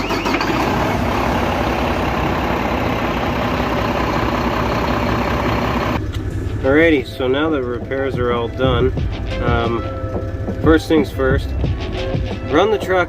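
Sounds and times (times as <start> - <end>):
diesel engine idling: 0.0 - 12.8.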